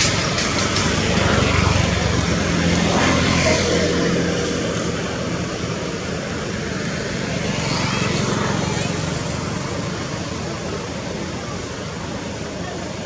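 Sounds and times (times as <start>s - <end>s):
motor engine drone: 0.0s - 12.6s.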